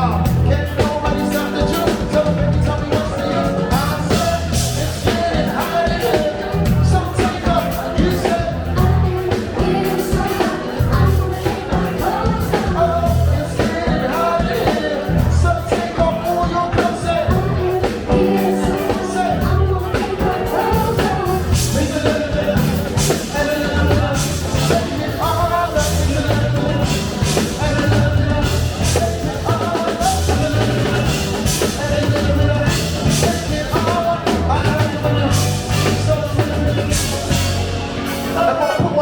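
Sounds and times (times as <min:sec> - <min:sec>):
funk band playing over a pa: 0:00.0 - 0:39.0
person singing: 0:00.0 - 0:39.0.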